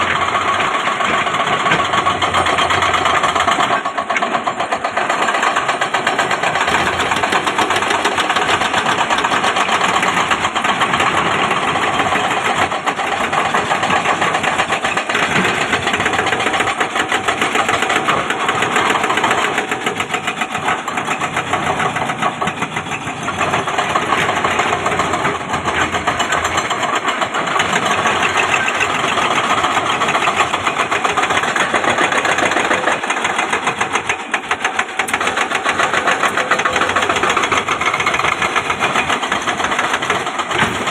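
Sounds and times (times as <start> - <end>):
excavator diesel engine clattering: 0.0 - 40.9.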